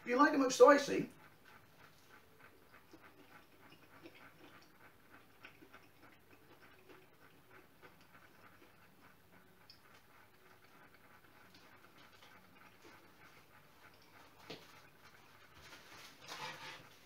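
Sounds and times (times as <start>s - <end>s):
person chewing with mouth closed: 1.5s - 15.2s.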